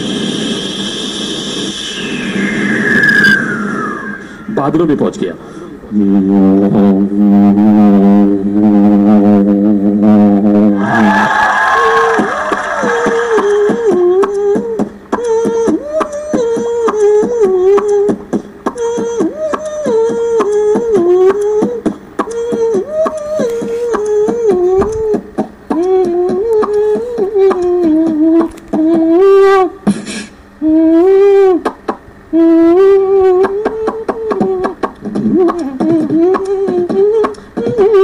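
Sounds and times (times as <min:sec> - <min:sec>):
person making tune with mouth: 0:05.9 - 0:10.8, 0:11.8 - 0:38.0.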